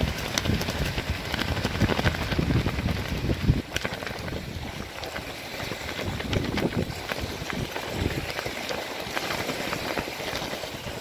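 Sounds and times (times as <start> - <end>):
waves splashing: 0.0 - 11.0
wind buffeting microphone: 0.0 - 11.0.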